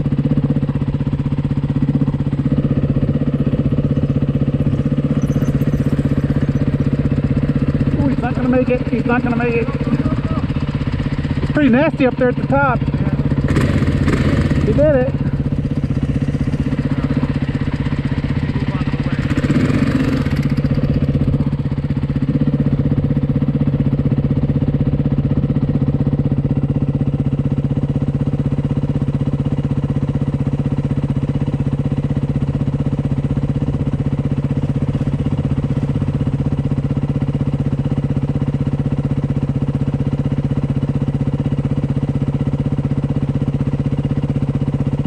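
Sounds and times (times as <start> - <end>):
dirt bike engine idling: 0.0 - 45.0.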